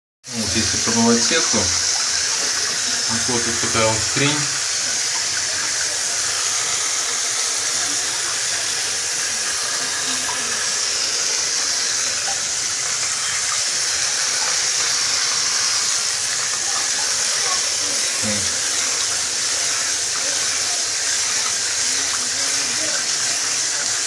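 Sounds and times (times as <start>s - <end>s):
shower head spraying water: 0.3s - 24.0s.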